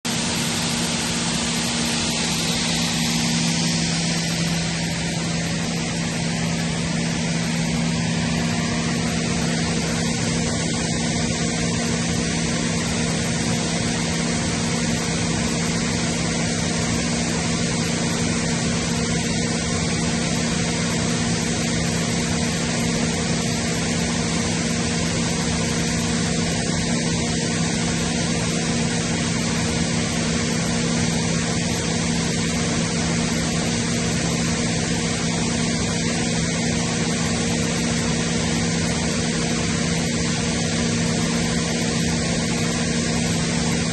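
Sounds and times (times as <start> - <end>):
air compressor humming: 0.0 - 43.9.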